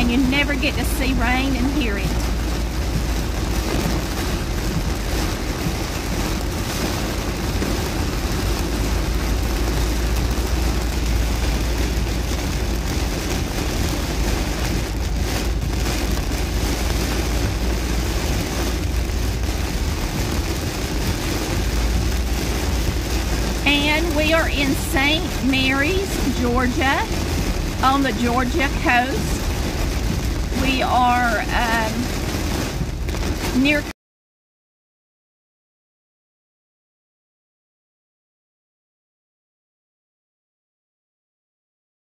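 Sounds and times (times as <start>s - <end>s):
low car rumble: 0.0s - 33.9s
heavy rain on car roof: 0.0s - 34.0s.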